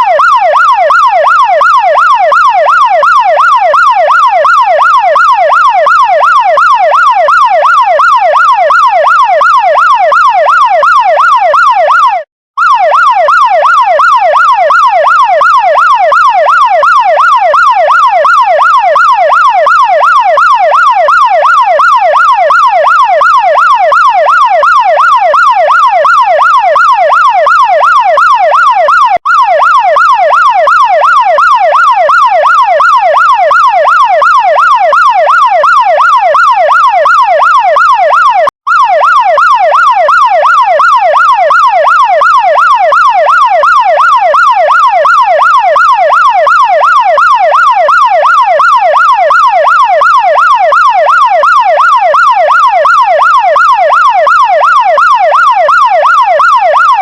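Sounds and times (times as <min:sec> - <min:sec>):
fire truck siren yelping: 0:00.0 - 0:57.0.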